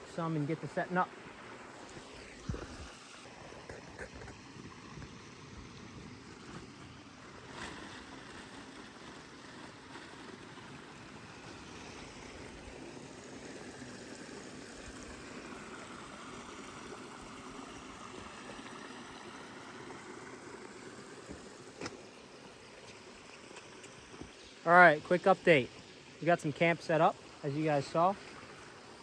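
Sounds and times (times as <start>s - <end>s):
creek water flowing: 0.0s - 29.0s.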